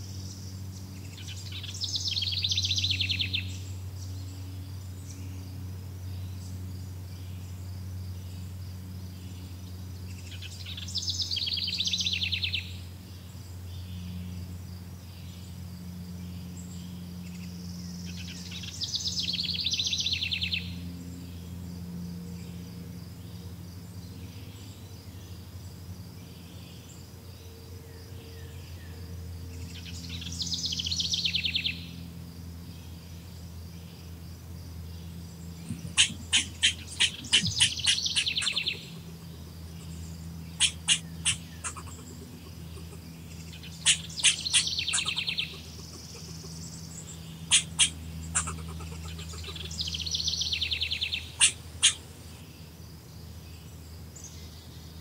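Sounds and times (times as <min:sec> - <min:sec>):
bird buzzy trills: 0:00.0 - 0:55.0
low steady hum: 0:00.0 - 0:55.0.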